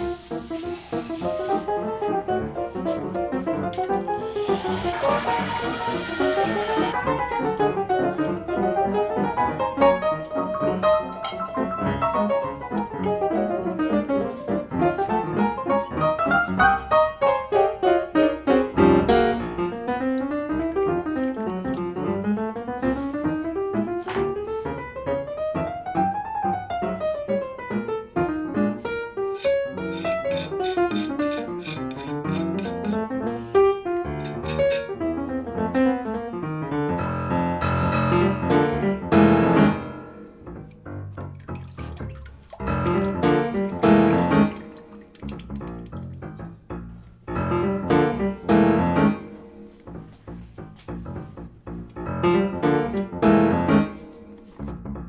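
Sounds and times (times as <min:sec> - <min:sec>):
piano music with flowing runs: 0:00.0 - 0:55.0.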